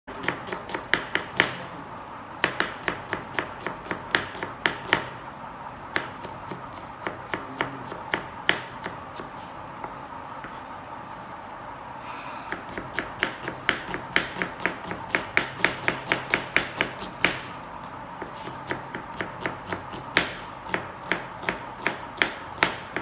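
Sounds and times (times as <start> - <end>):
knife chopping on cutting board: 0.1 - 1.6, 2.4 - 5.1, 5.9 - 10.6, 12.5 - 17.4, 18.2 - 23.0
faint steady hum: 0.1 - 23.0.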